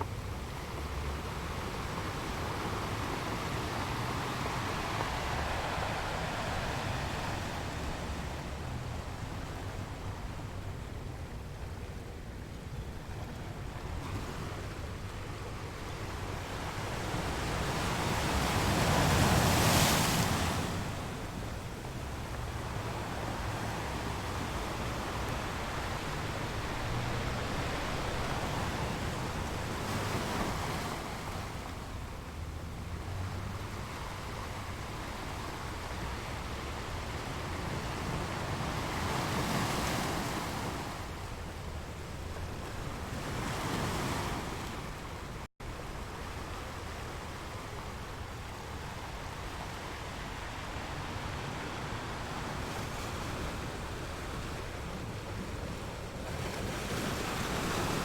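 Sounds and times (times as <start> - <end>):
sea waves washing in: 0.0 - 12.3, 13.4 - 58.0.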